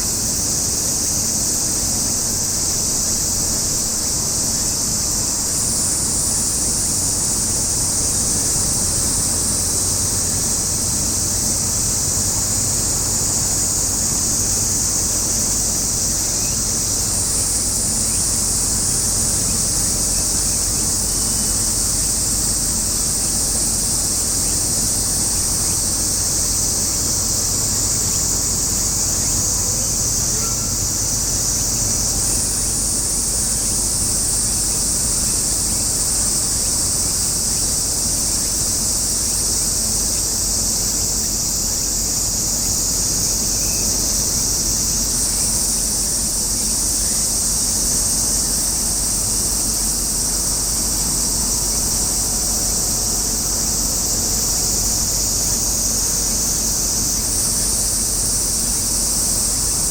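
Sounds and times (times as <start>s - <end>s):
cicadas chorus: 0.0s - 59.9s.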